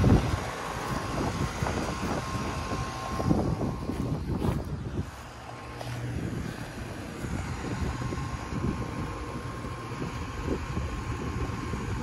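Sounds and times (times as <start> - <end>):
compressors humming: 0.0 - 12.0
condenser fans blowing: 0.0 - 12.0.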